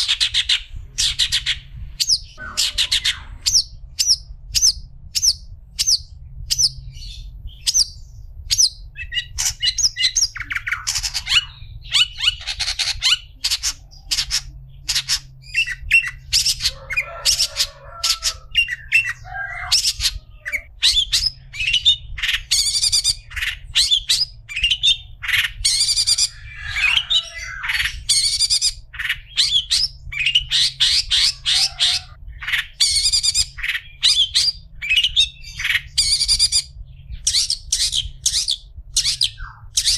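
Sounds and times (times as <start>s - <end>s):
bird chirping and chattering: 0.0s - 39.9s
steady low hum: 0.0s - 39.9s.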